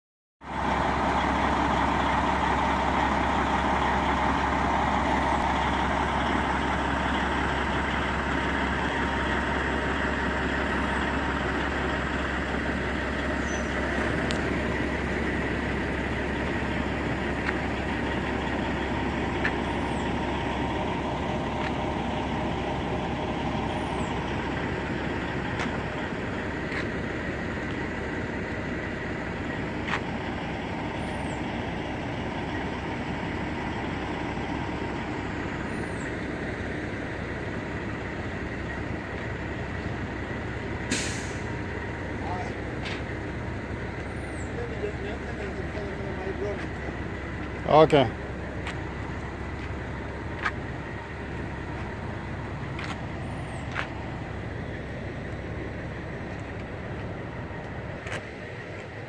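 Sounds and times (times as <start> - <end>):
truck diesel engine idling: 0.4 - 59.0.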